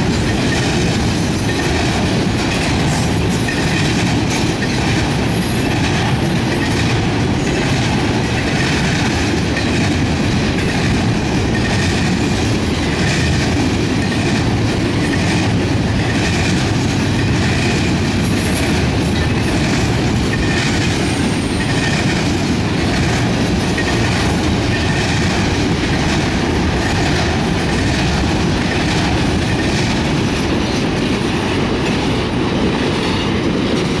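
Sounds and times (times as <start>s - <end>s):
clicking over rail joints: 0.0s - 32.1s
train wheels rumbling on rails: 0.0s - 34.0s.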